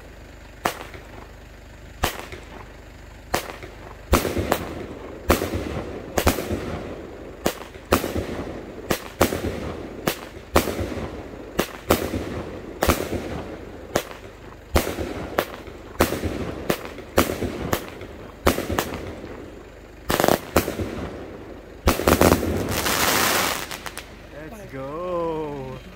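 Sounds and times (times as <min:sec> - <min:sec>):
fireworks cake firing sharp bangs: 0:00.6 - 0:24.6.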